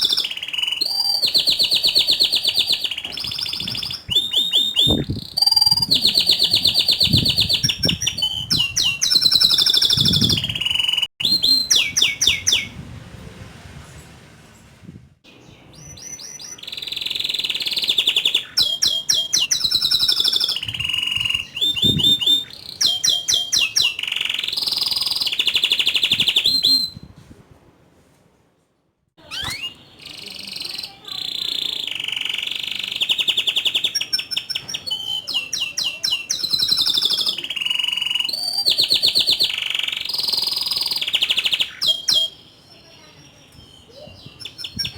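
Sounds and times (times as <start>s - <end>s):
canary singing trills: 0.0s - 12.8s, 15.3s - 27.0s, 29.2s - 44.9s.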